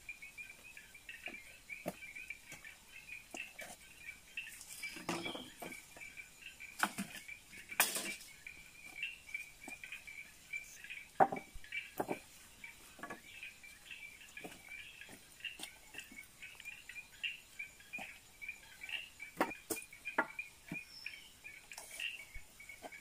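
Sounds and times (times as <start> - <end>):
continuous high chirping: 0.0 - 23.0.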